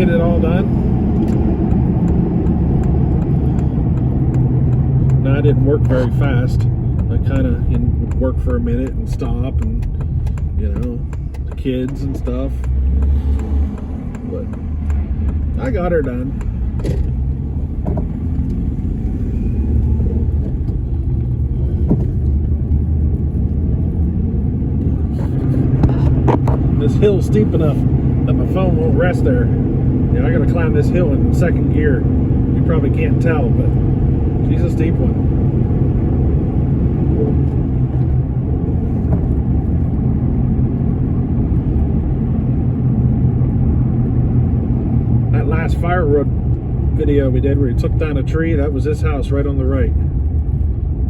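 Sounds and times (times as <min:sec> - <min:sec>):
pickup engine and road rumble: 0:00.0 - 0:51.0.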